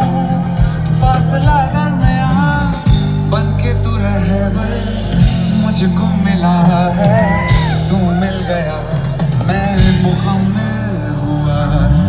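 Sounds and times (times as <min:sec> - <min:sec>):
live band music: 0:00.0 - 0:12.0
man singing: 0:00.0 - 0:12.0.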